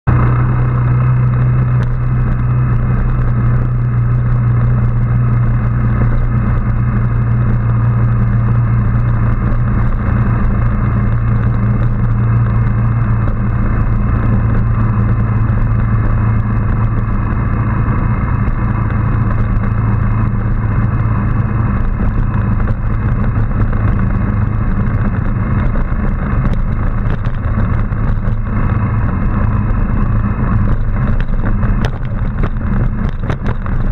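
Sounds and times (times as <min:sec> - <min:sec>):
motorbike engine running: 0:00.0 - 0:33.9.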